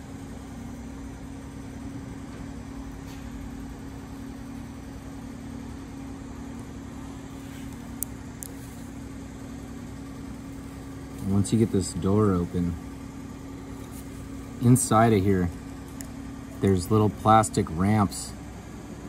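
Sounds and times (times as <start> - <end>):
mechanical hum with held tone: 0.0 - 19.0.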